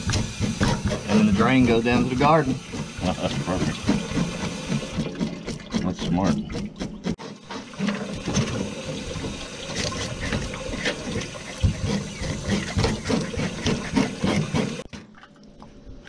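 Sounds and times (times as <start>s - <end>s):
fish scaler rasping scales: 0.0s - 15.4s
running water: 0.0s - 15.7s.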